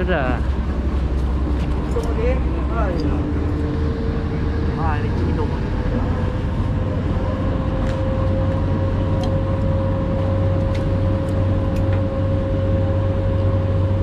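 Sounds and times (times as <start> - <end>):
boat engine droning: 0.0 - 14.0
wind and water rushing: 0.0 - 14.0.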